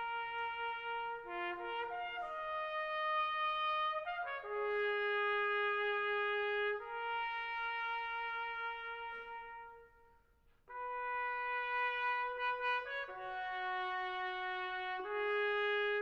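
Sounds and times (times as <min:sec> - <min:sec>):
slow brass music with trumpet: 0:00.0 - 0:16.0.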